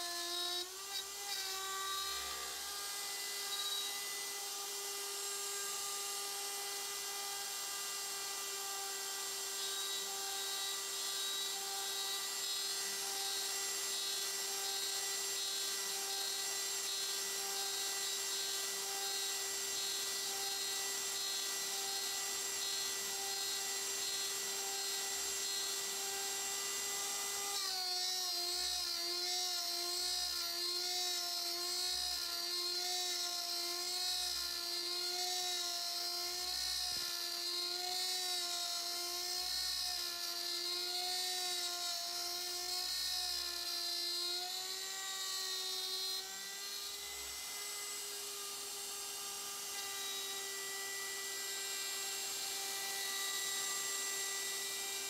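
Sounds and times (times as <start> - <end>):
router spindle high-pitched whine: 0.0 - 55.0.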